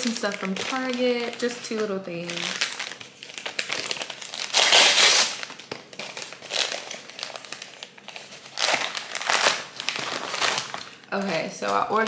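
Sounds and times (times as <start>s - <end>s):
paper bag crinkling and tearing: 0.0s - 11.4s.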